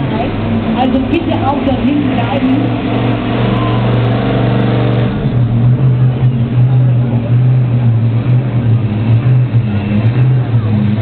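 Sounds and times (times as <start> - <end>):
truck engine deep idle: 0.0 - 11.0.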